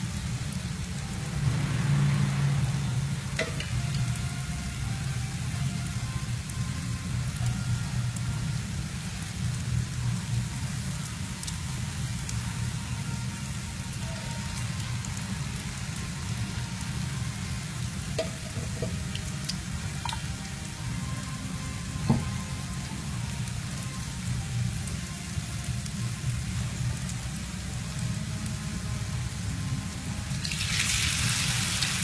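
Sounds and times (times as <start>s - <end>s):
fritter sizzling in hot oil: 0.0s - 32.0s.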